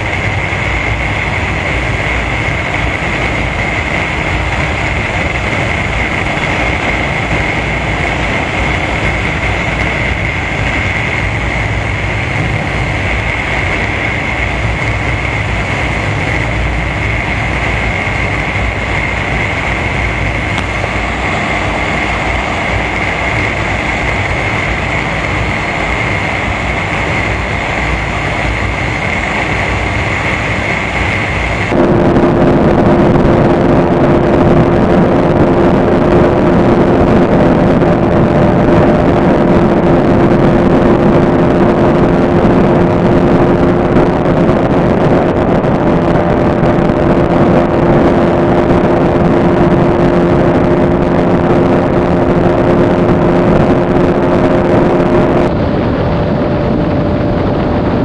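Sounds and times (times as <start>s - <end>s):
motorcycle engine at highway speed: 0.0s - 58.0s
wind rush: 0.0s - 58.0s.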